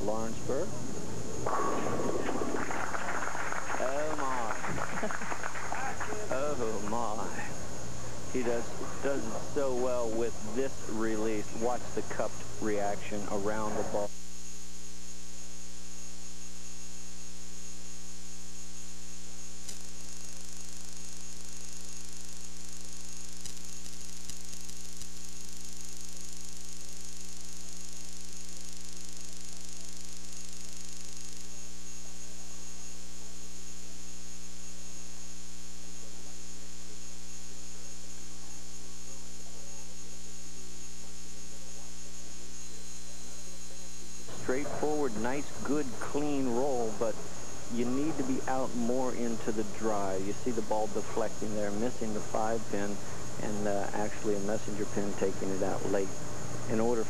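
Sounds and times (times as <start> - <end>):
electrical mains hum: 0.0 - 57.0
thin high whine: 0.0 - 57.0.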